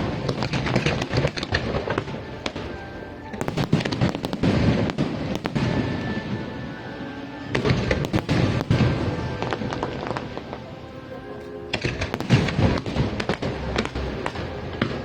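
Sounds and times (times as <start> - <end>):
background music: 0.0 - 15.0
fireworks bangs and crackles: 0.0 - 15.0.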